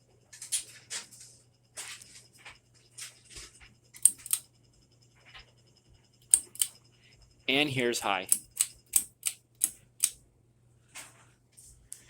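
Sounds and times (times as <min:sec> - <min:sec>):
ceiling fan humming: 0:00.0 - 0:12.0.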